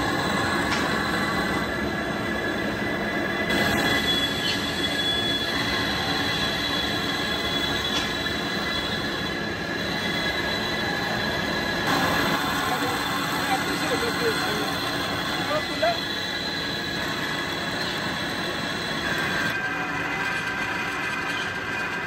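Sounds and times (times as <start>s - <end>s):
high tool squeal: 0.0s - 22.0s
lathe cutting metal: 0.0s - 22.0s.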